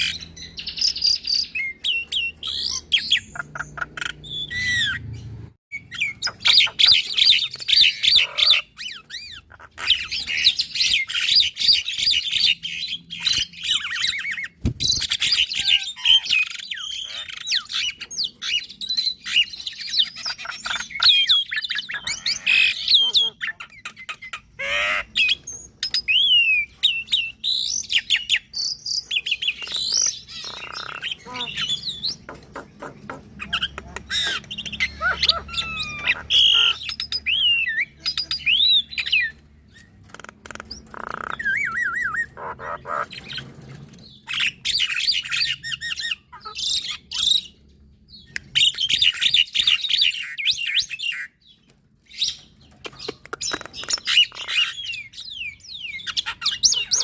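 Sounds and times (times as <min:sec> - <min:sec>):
birds singing whistles and chirps: 0:00.0 - 0:57.0
harsh bird chatter: 0:00.0 - 0:57.0.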